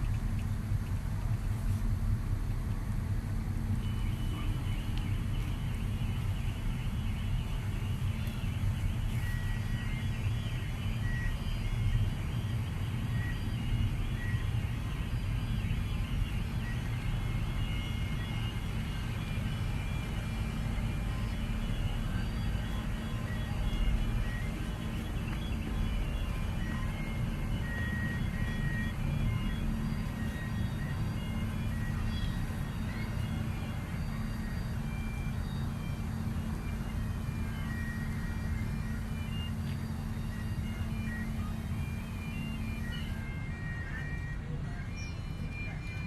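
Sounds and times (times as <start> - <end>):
ferry engines rumbling: 0.0 - 46.0
birds chirping: 3.8 - 44.0.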